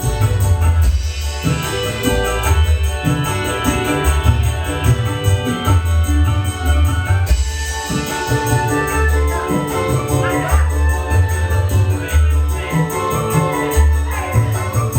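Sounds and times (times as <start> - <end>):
band playing instrumental: 0.0 - 14.9
electronic keyboard melody: 0.0 - 14.9
jingling percussion: 0.0 - 14.9.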